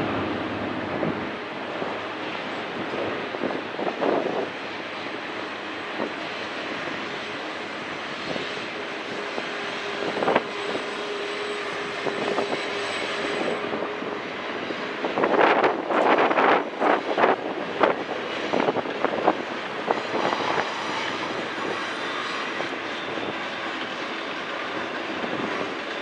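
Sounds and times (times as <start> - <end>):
freight cars rumbling on rails: 0.0 - 26.0.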